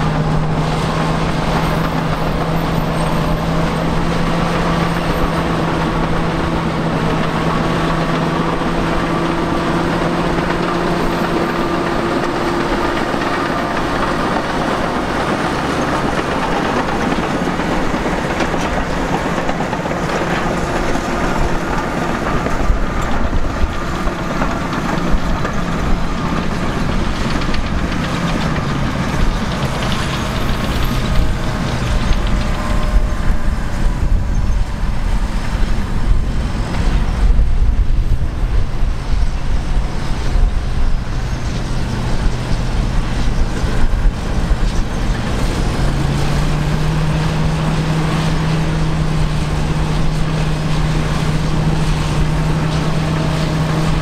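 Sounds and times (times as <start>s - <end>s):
diesel bulldozer engines under load: 0.0s - 54.0s.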